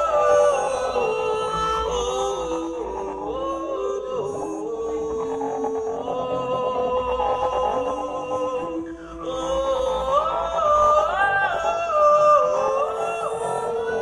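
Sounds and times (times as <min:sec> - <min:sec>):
woman singing into a microphone: 0:00.0 - 0:14.0.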